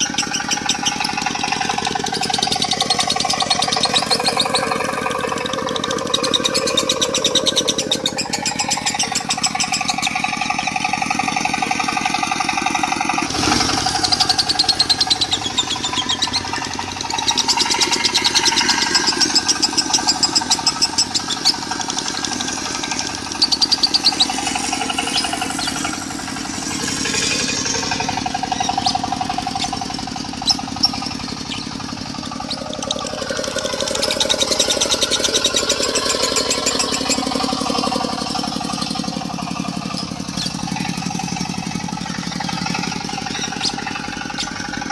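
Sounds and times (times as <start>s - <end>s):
lovebird chattering trills: 0.0s - 13.3s, 13.9s - 44.9s
diesel engine running: 0.0s - 44.9s.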